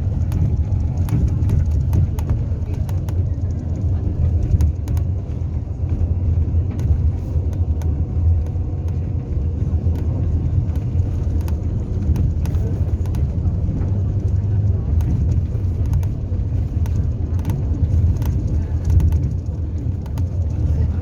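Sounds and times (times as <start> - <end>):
light clicks and rattles: 0.0 - 21.0
vehicle engine rumble: 0.0 - 21.0.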